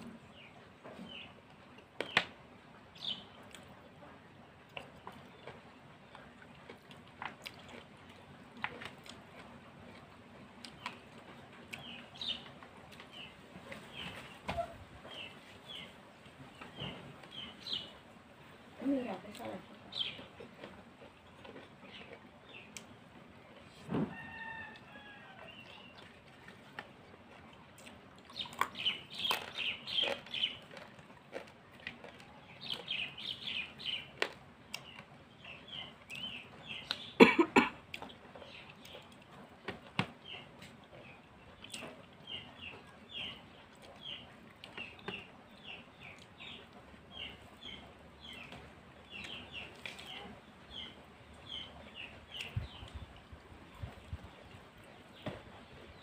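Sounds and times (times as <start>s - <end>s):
birds chirping: 0.0s - 3.6s, 10.6s - 39.4s, 40.0s - 56.0s.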